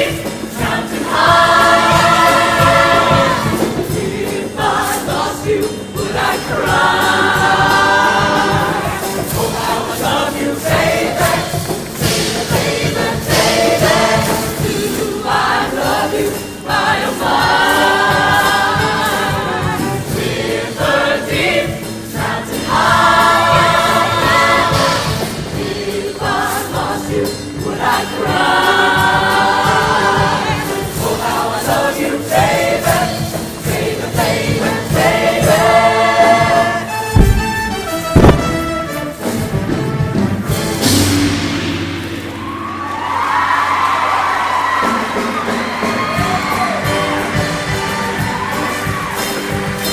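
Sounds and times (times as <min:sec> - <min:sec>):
choir singing in chords: 0:00.0 - 0:49.9
musical accompaniment: 0:00.0 - 0:49.9.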